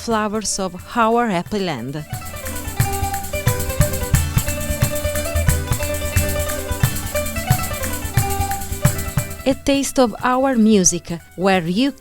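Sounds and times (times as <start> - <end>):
plucked strings: 0.0 - 12.0
rattling percussion: 0.0 - 12.0.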